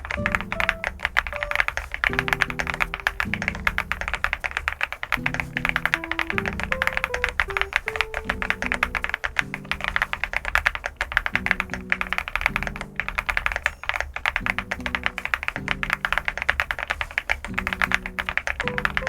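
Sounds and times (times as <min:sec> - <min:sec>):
rapid mechanical keyboard typing: 0:00.0 - 0:19.0
soft background music: 0:00.0 - 0:19.0.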